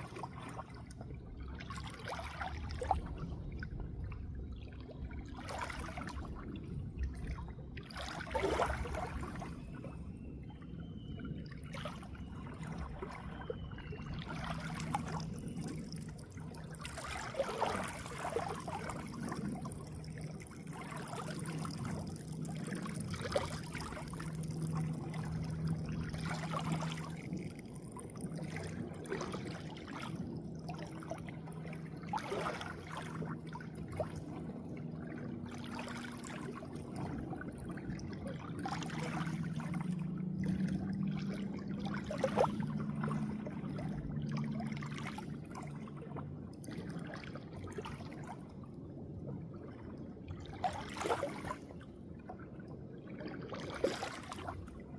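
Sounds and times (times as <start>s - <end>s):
low wavering hum: 0.0s - 54.9s
water trickling and splashing: 0.0s - 54.9s.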